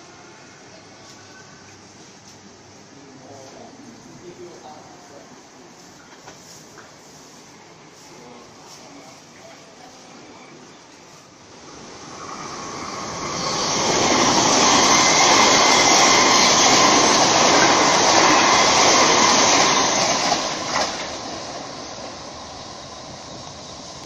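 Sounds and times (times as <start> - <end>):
train rail and wheel noise: 0.0 - 24.0.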